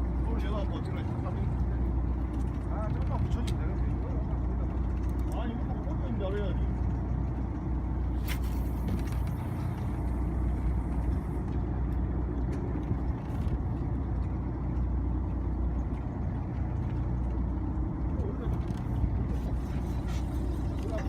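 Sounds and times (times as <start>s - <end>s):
boat engine rumbling: 0.0s - 21.0s.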